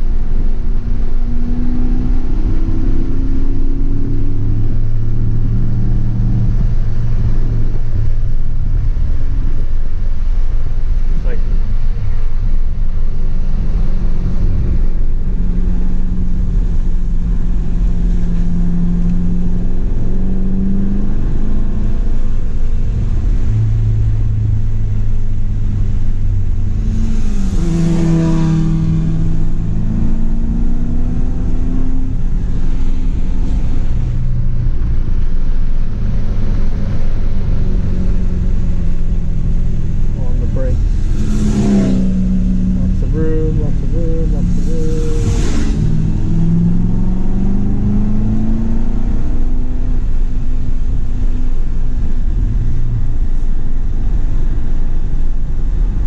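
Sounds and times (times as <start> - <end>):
car engine revving: 0.0 - 56.0
steady low rumble: 0.0 - 56.0.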